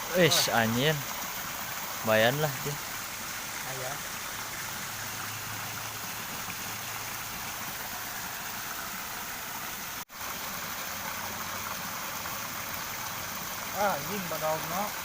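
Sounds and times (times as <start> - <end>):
water gushing into ditch: 0.0 - 15.0.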